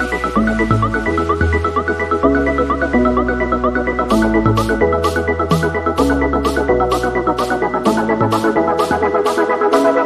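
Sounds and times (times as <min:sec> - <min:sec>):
electronic music with plucked melody: 0:00.0 - 0:10.0.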